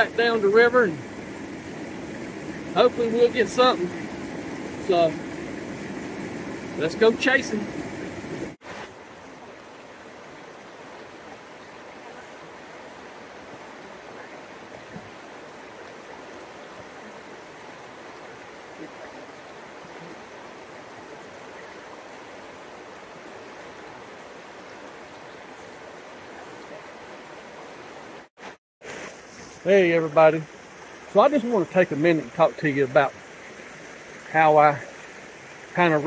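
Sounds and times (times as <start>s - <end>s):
stream rushing over rocks: 0.0s - 36.0s.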